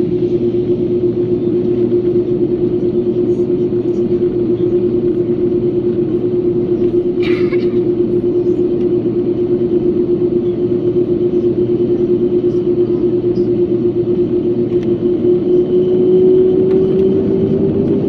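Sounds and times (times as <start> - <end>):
jet engines droning: 0.0 - 18.0.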